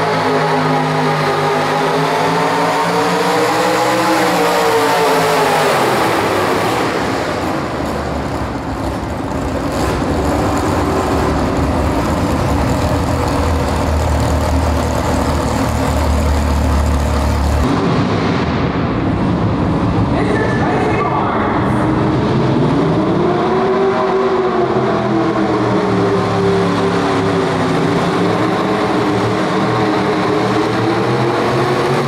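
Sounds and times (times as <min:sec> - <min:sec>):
truck engine revving under load: 0:00.0 - 0:17.8, 0:22.2 - 0:32.0
engine running low and steady: 0:00.0 - 0:20.5, 0:21.4 - 0:32.0.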